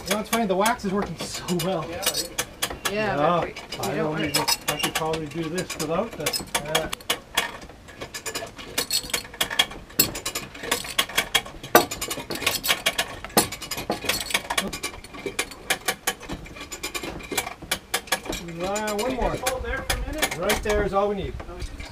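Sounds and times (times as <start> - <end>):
hand winch ratchet clicking: 0.0 - 3.0, 3.6 - 21.9.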